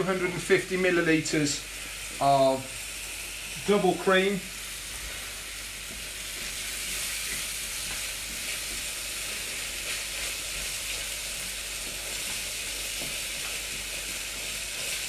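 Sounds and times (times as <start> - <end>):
cream sizzling in a frying pan: 0.0 - 15.0.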